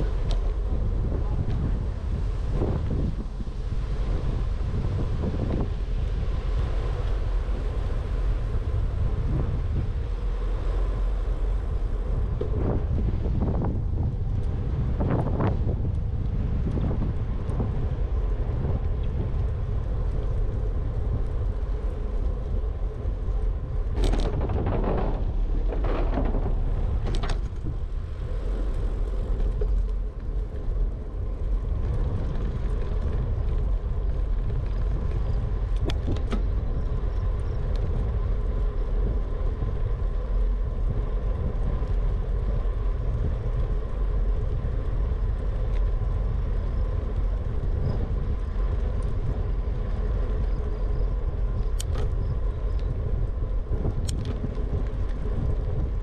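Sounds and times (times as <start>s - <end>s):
bike tyres rolling on concrete: 0.0s - 56.0s
wind buffeting microphone: 0.0s - 56.0s.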